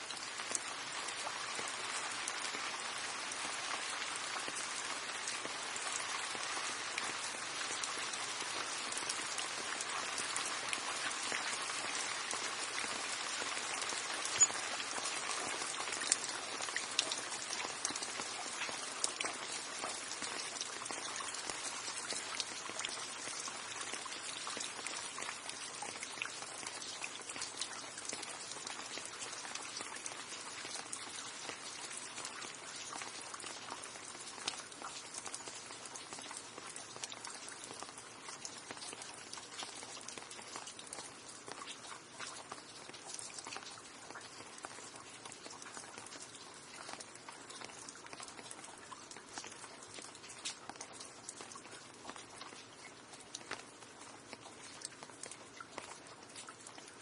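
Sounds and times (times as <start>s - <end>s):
rain ticking on hard surface: 0.0s - 57.0s.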